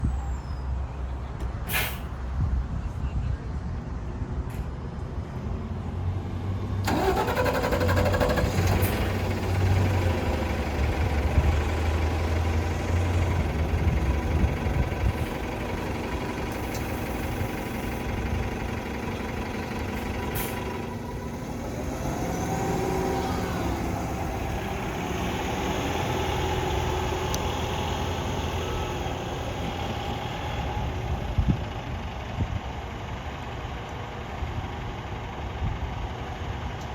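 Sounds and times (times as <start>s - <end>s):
bus engine starting and idling: 0.0s - 2.6s, 6.0s - 36.9s.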